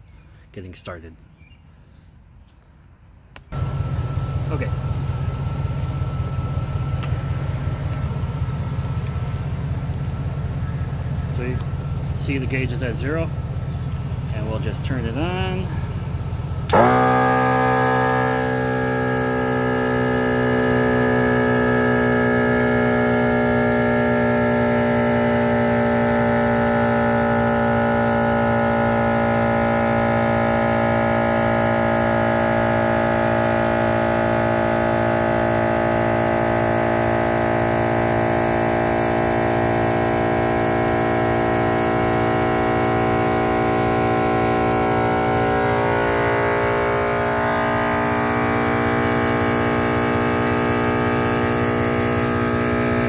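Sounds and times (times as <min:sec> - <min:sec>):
air compressor droning whine: 0:03.5 - 0:53.0.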